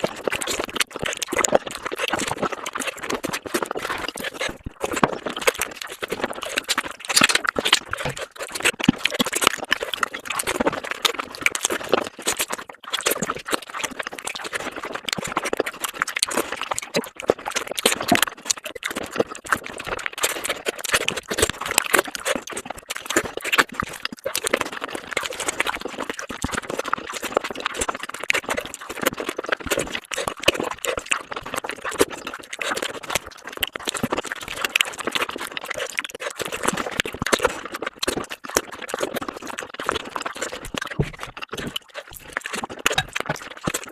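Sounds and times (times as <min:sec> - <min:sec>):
wet chewing and mouth clicks: 0:00.0 - 0:43.9.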